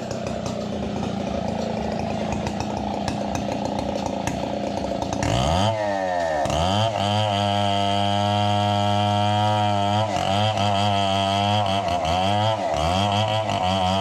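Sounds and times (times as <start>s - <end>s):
chainsaw running: 0.0s - 14.0s.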